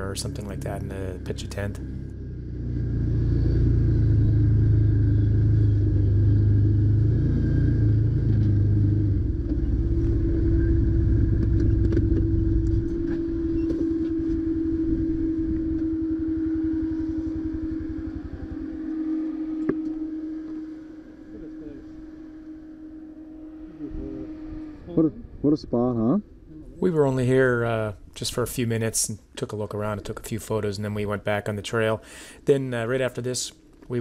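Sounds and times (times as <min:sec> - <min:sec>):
engine idle hum: 0:00.0 - 0:34.0
vehicle engine rumbling: 0:00.0 - 0:34.0.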